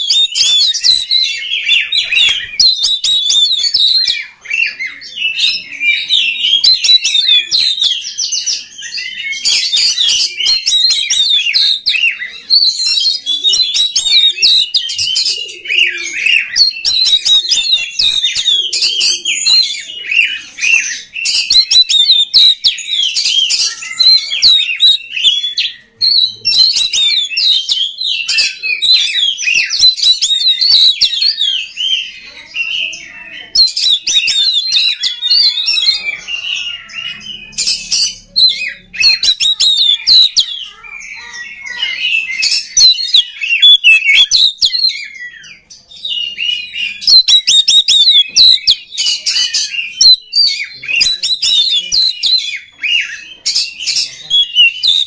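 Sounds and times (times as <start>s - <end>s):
bird singing whistles and chirps: 0.0s - 55.0s.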